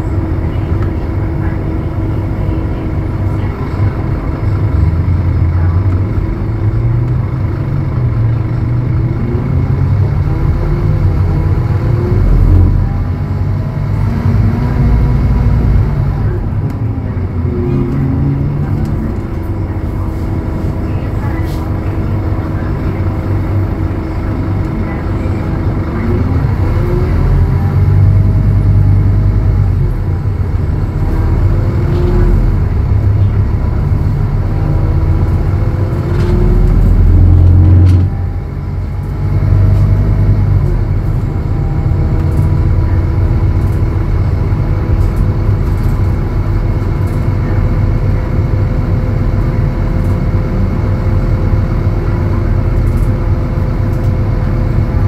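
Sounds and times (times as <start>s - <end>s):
bus engine whining: 0.0s - 55.0s.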